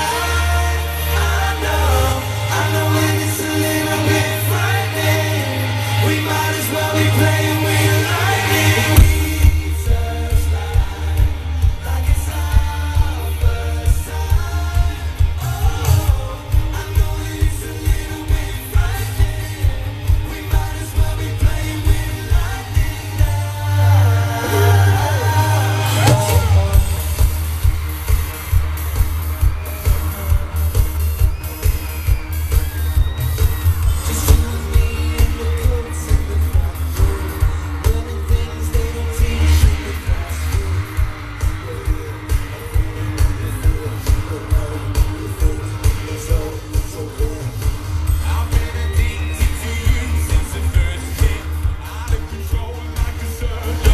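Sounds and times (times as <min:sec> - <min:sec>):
men singing into microphones: 0:00.0 - 0:27.4, 0:33.9 - 0:53.9
electric guitar: 0:00.0 - 0:53.9
heavy drum and bass beat: 0:00.0 - 0:53.9
keyboards: 0:00.0 - 0:53.9
live pop band playing: 0:00.0 - 0:53.9
male lead vocal: 0:00.0 - 0:53.9.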